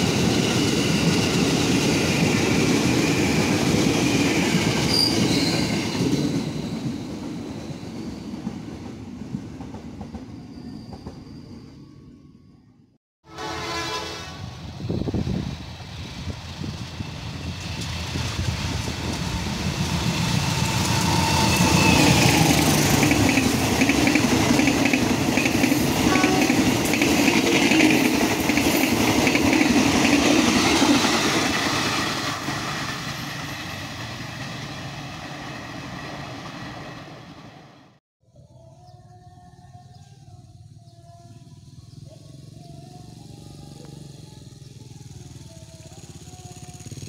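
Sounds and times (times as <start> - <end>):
passenger train passing: 0.0 - 12.7, 13.3 - 38.0, 42.9 - 47.0.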